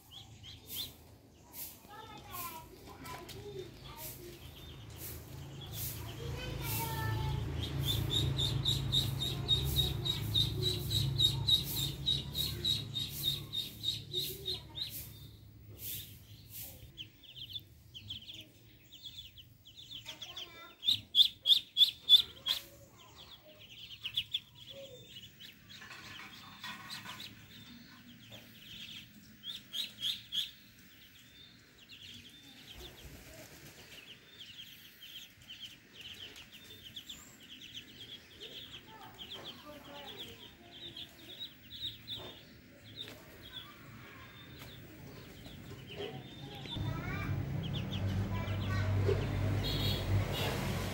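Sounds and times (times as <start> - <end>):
ducklings peeping: 0.0 - 50.9.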